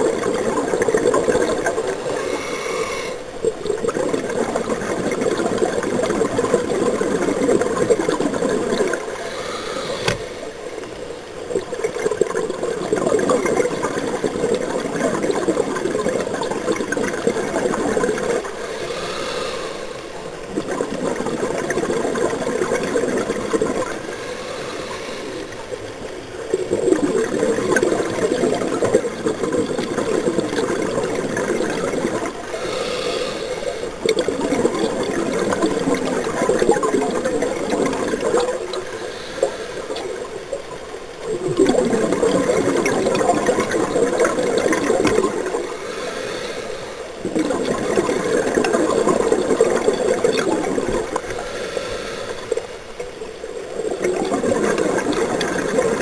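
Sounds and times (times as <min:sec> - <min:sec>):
exhaled bubbles gurgling underwater: 0:00.0 - 0:56.0.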